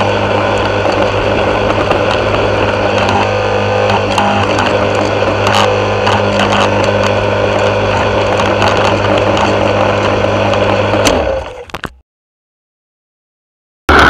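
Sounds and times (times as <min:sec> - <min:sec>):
lawn mower engine running: 0:00.0 - 0:11.9.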